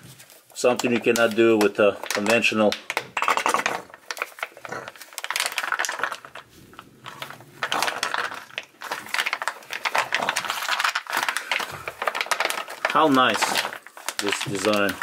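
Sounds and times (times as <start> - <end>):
plastic pouch crinkling: 0.1 - 15.0.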